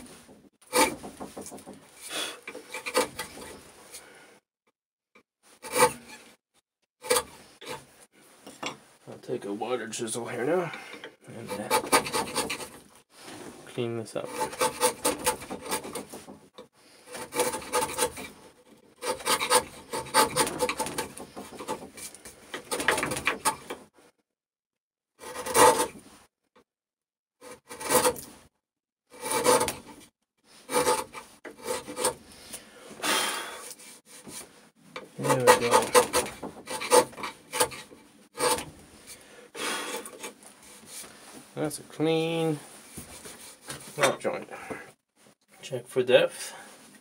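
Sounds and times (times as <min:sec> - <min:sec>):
hand tool scraping wood: 0:00.0 - 0:04.1, 0:05.5 - 0:06.4, 0:07.0 - 0:08.0, 0:09.9 - 0:23.9, 0:25.2 - 0:26.1, 0:27.4 - 0:28.5, 0:29.1 - 0:45.0.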